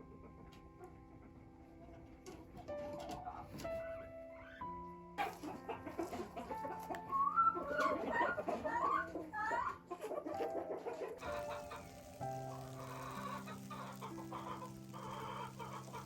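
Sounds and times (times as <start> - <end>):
soft background music: 0.0 - 16.0
chickens clucking: 0.2 - 3.8, 5.2 - 16.0.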